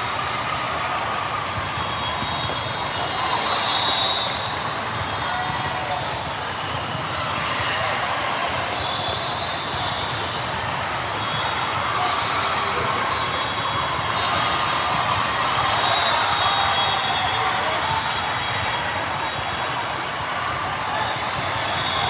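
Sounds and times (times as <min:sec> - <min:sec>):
crowd chatter: 0:00.0 - 0:22.0.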